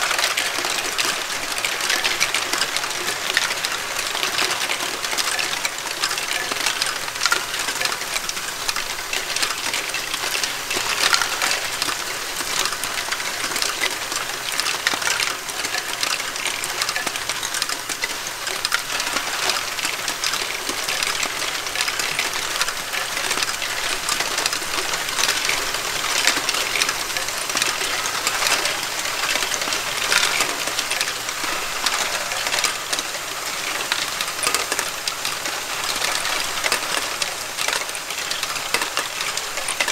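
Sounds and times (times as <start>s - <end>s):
plastic balls clattering and tapping: 0.1s - 39.9s.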